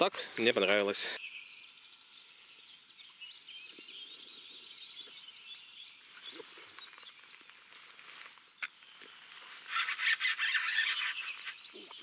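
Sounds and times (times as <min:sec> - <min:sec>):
small birds chirping and singing: 0:00.0 - 0:12.0.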